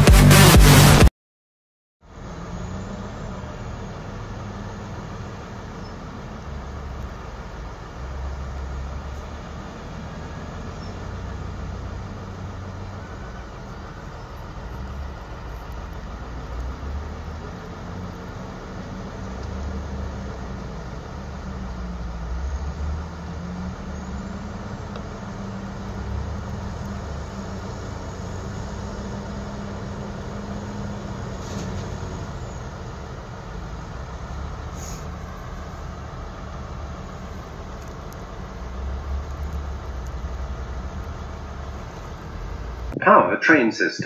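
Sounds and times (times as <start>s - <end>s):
diesel engines idling: 2.0s - 44.0s.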